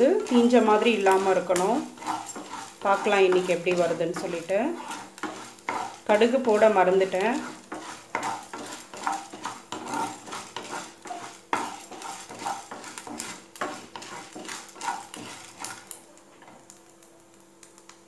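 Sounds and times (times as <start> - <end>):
wooden spatula scraping a pan: 0.0 - 16.6
oil sizzling: 0.0 - 18.0.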